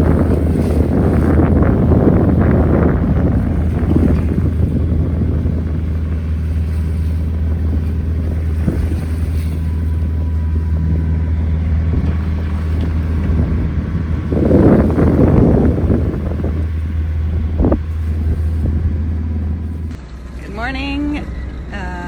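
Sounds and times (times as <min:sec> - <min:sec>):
wind buffeting microphone: 0:00.0 - 0:20.0
boat engine humming: 0:00.0 - 0:22.0.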